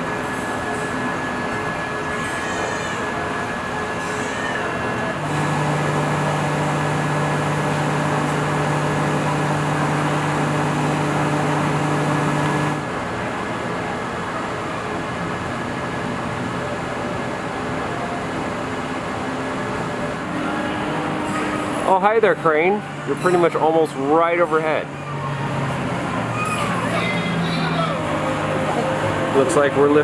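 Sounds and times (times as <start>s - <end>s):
machinery hum: 0.0s - 24.1s.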